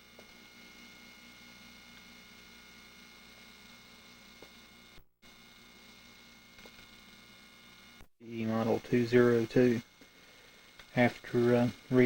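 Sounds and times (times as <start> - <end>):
faint electrical mains hum: 0.0 - 12.0.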